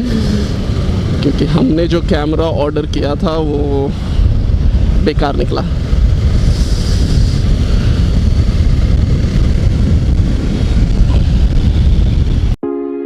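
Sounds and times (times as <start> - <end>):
wind rushing over microphone: 0.0 - 12.6.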